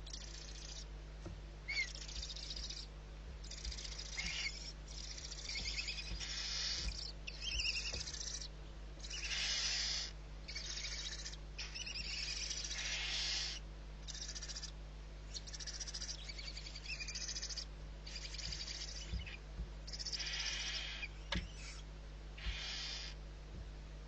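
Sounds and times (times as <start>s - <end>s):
owl hissing: 0.0s - 0.9s, 1.7s - 14.7s, 15.3s - 23.2s
small birds chirping: 0.0s - 23.6s.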